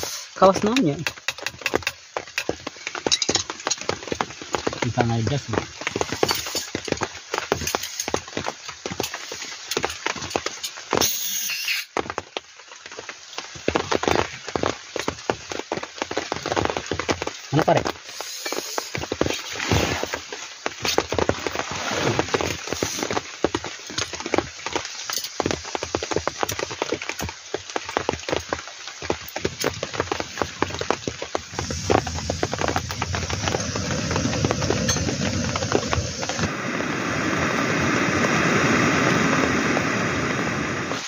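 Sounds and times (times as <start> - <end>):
rain falling: 0.0 - 41.0
sharp crackles and clicks: 0.0 - 41.0.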